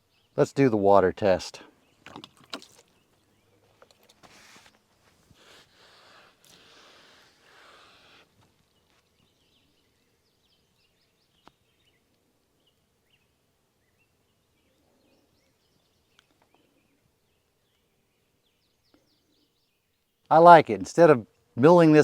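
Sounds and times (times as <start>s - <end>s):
small birds chirping: 1.6s - 20.3s.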